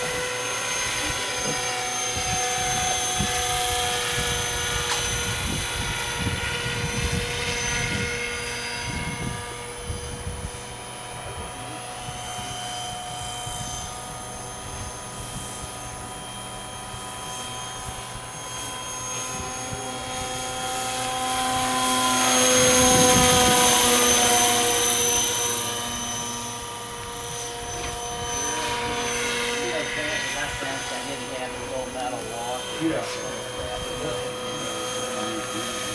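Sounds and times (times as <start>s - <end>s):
rc helicopter motor and rotor whine: 0.0s - 35.9s.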